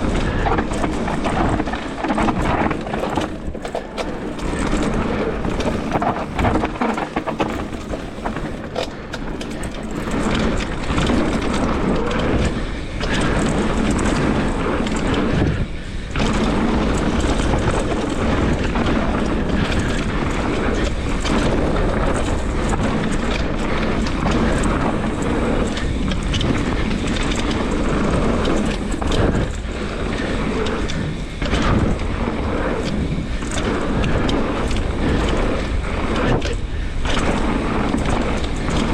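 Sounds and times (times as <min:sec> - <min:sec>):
bike clicks and rattles: 0:00.0 - 0:38.9
tyre and air rush: 0:00.0 - 0:38.9.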